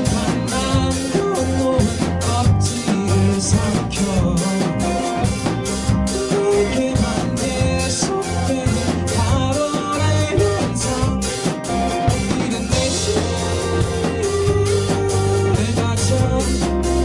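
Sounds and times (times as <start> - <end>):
bass guitar: 0.0 - 17.0
drum kit beating: 0.0 - 17.0
electric guitars: 0.0 - 17.0
person singing: 0.0 - 17.0.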